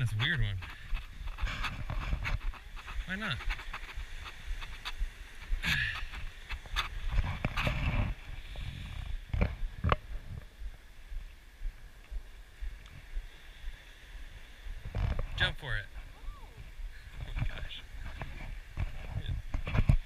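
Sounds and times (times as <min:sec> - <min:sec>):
footsteps on driftwood logs: 0:00.0 - 0:20.0.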